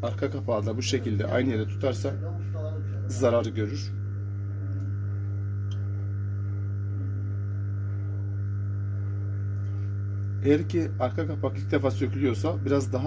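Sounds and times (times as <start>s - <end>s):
hot air station electrical hum: 0.0s - 13.0s.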